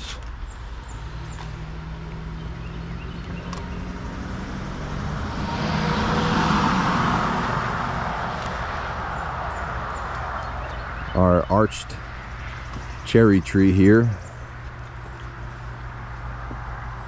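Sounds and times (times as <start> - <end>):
vehicle passing with road noise: 0.0 - 17.0.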